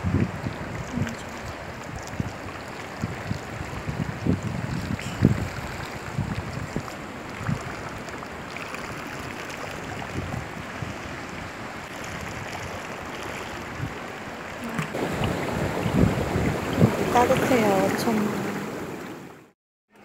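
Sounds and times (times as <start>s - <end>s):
wind and sea water rushing: 0.0s - 19.6s.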